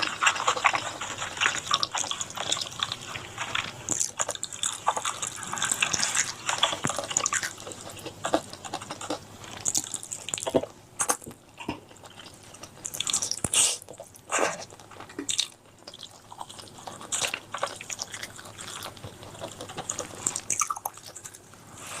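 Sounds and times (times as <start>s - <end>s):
wet chewing and mouth smacking: 0.0s - 22.0s.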